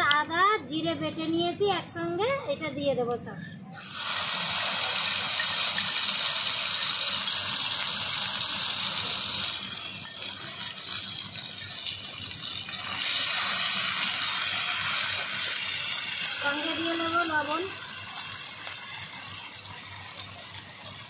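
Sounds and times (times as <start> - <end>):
hot oil sizzling: 3.8 - 21.0.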